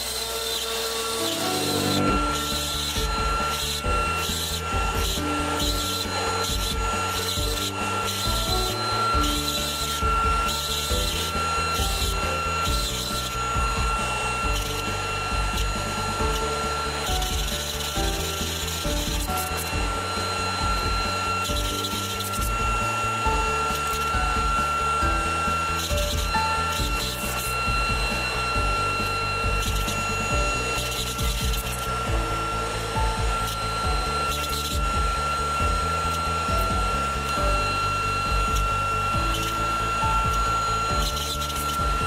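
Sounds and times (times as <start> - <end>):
cnc router carving wood: 0.0 - 42.0
background music with beat: 1.1 - 42.0.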